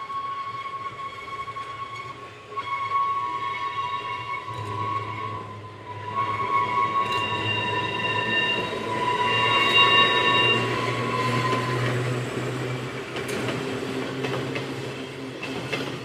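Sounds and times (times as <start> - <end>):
tram wheels squealing on rails: 0.0 - 16.0.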